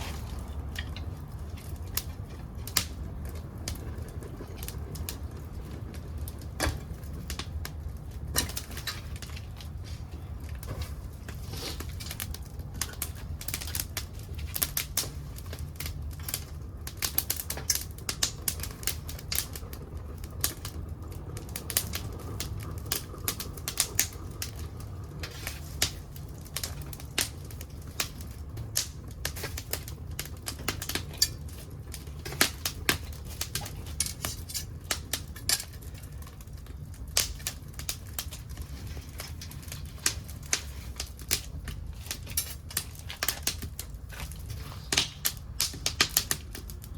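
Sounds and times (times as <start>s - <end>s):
low rumble of fire: 0.0s - 46.9s
wood crackling and popping: 0.0s - 46.9s.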